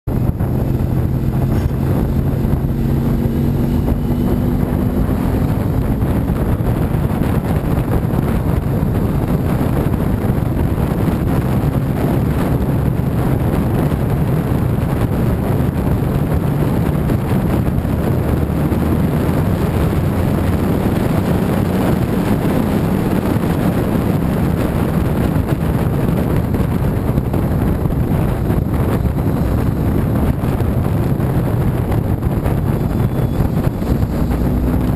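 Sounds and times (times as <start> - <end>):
wind noise on microphone: 0.0 - 34.9
motorcycle engine running: 0.1 - 34.9.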